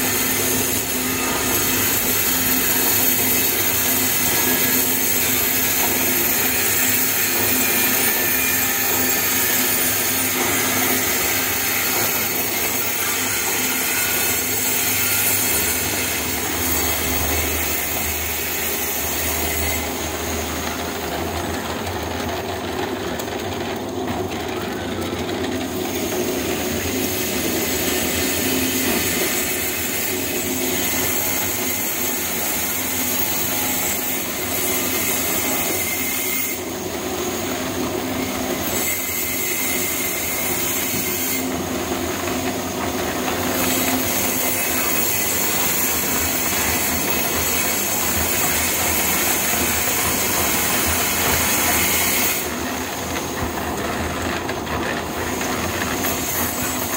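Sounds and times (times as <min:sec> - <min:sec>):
concrete mixer running: 0:00.0 - 0:56.9.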